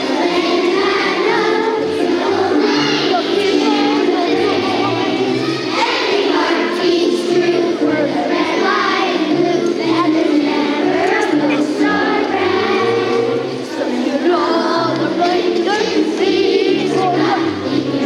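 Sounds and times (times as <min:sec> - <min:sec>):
children's choir singing: 0:00.0 - 0:18.0
instrumental accompaniment: 0:00.0 - 0:18.0.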